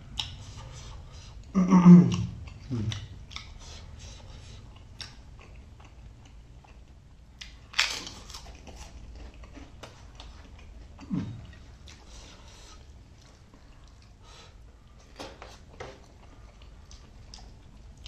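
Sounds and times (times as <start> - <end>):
person chewing: 0.1 - 18.0.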